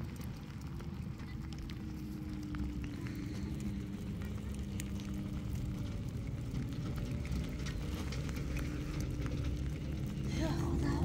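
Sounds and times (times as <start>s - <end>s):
steady low rumble: 0.0s - 11.0s
wood fire crackling: 0.0s - 11.0s.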